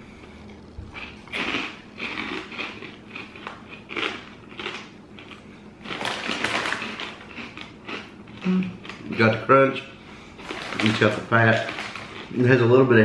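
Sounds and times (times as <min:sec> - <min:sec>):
crunchy food being chewed: 0:00.4 - 0:09.4, 0:10.4 - 0:12.7.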